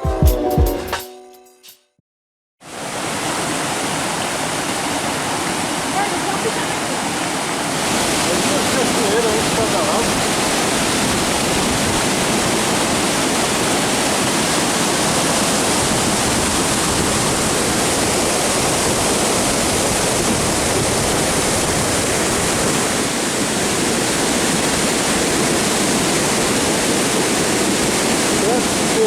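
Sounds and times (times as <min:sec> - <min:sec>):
waterfall rushing into pool: 0:02.6 - 0:29.0.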